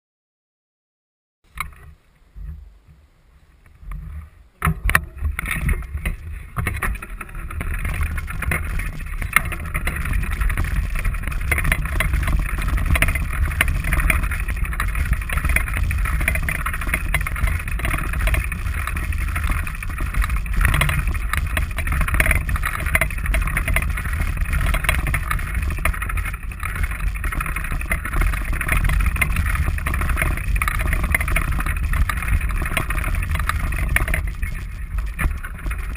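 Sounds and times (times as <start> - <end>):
bicycle tyres rolling on dirt: 1.5 - 35.9.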